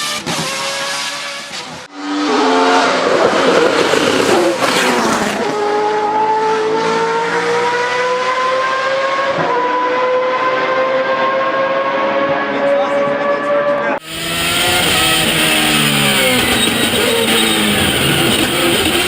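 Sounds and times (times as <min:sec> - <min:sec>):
racing engine at high revs: 0:00.0 - 0:19.0.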